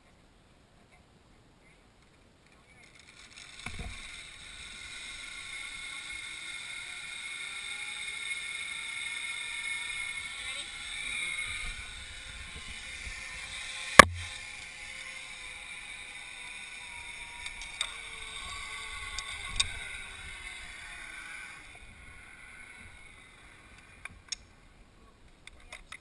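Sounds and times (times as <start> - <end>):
pulleys whirring along steel cable: 2.8 - 24.0.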